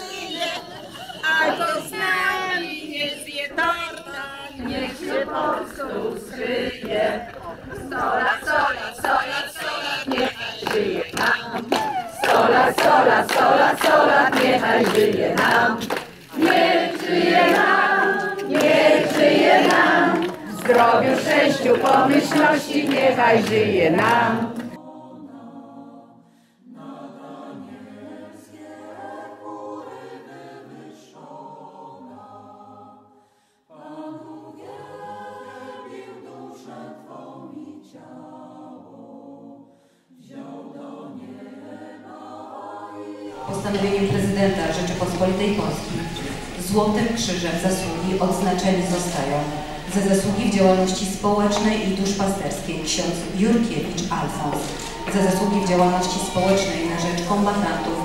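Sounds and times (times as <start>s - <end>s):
choir singing slow phrases: 0.0s - 58.0s
crowd singing together: 0.0s - 58.0s.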